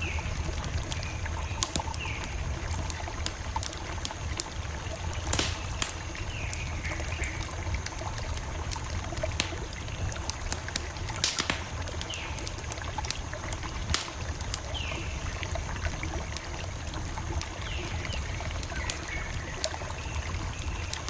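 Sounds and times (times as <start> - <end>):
campfire crackling and popping: 0.0 - 21.0
low rumble of flames: 0.0 - 21.0.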